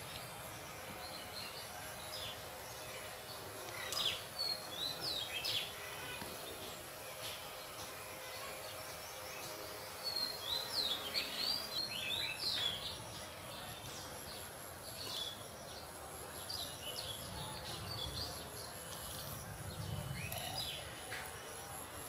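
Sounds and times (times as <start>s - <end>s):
birds chirping: 0.0s - 22.0s
outdoor background noise: 0.0s - 22.0s.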